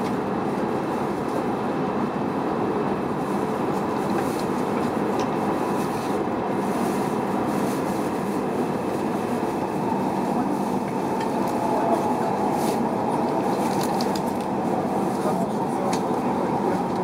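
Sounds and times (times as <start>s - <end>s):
train running rush and rumble: 0.0s - 17.0s.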